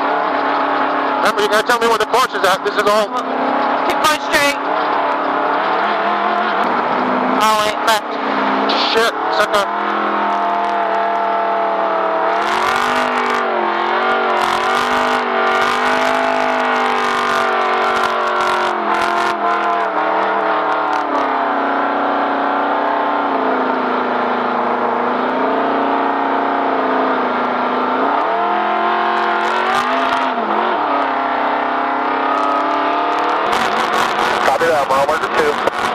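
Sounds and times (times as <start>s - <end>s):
vehicle engine running hard: 0.0s - 35.9s.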